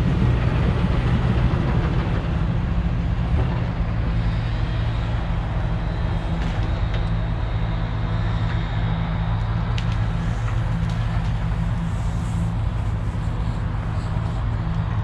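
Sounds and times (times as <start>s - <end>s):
large diesel engine droning: 0.0s - 15.0s.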